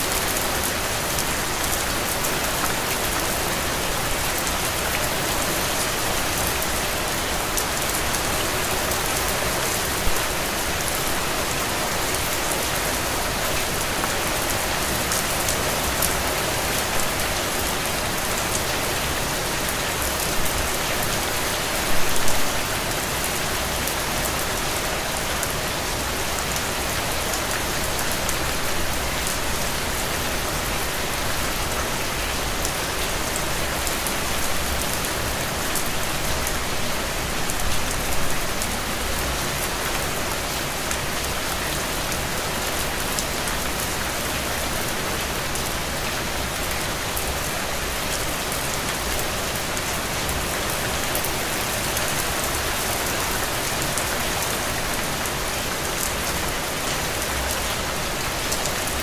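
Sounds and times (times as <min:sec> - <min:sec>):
heavy rain splashing on ground: 0:00.0 - 0:59.0.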